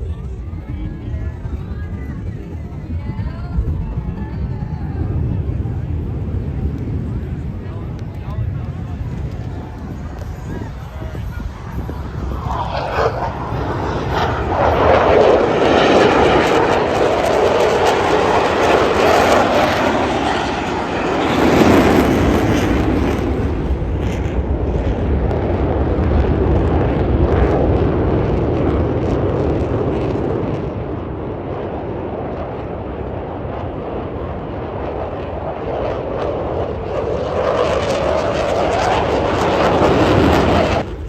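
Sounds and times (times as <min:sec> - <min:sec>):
jets flying past: 0:05.2 - 0:41.0.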